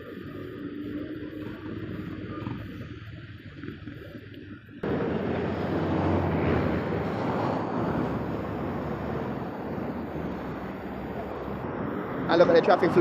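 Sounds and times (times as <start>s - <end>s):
low hum: 0.0s - 12.4s
road noise: 0.0s - 13.0s
vehicle engine: 0.0s - 13.0s.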